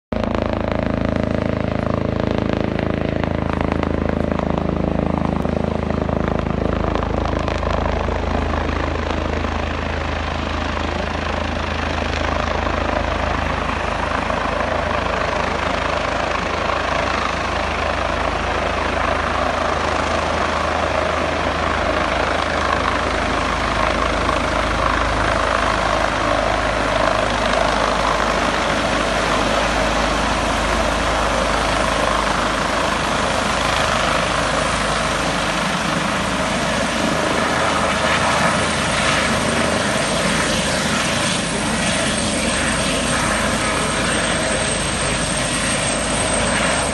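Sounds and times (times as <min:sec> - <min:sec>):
helicopter rotor beating: 0:00.1 - 0:46.9.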